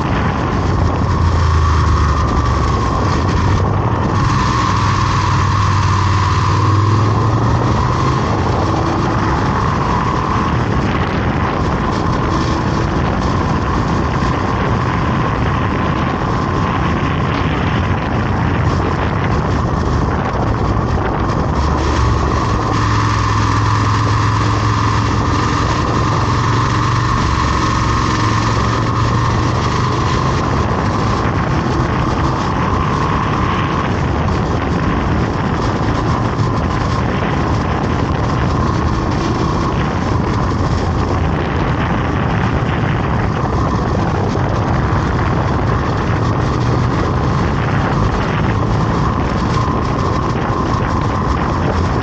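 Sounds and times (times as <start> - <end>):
deep engine hum: 0.0 - 52.0
vehicle engine and road noise: 0.0 - 52.0
wind on microphone: 0.0 - 52.0.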